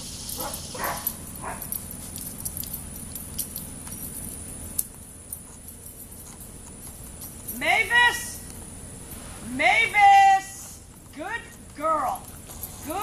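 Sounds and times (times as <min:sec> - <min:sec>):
collar tags jingling: 0:00.0 - 0:13.0.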